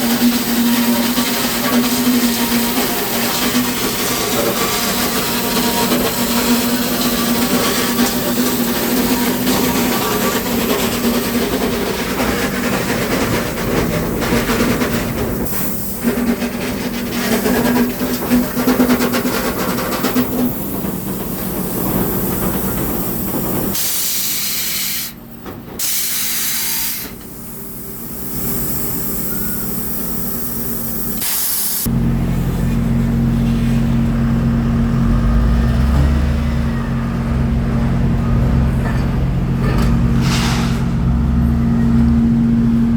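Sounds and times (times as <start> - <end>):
sawmill machinery clattering: 0.0 - 26.1, 34.0 - 42.9.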